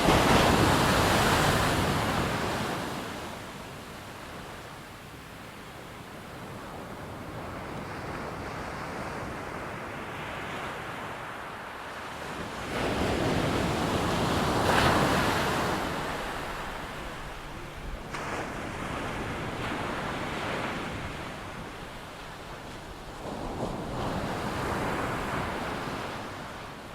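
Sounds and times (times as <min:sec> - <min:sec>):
ocean waves breaking on beach: 0:00.0 - 0:26.9.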